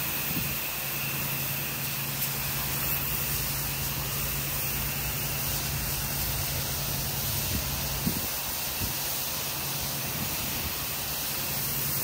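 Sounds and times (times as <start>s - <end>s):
pressure washer jet hissing on concrete: 0.0s - 12.0s
pressure washer motor humming: 0.0s - 12.0s.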